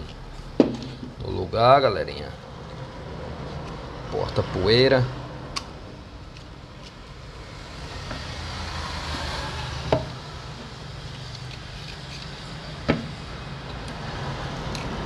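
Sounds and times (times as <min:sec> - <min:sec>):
low traffic hum: 0:00.0 - 0:15.0
car passing: 0:00.1 - 0:15.0.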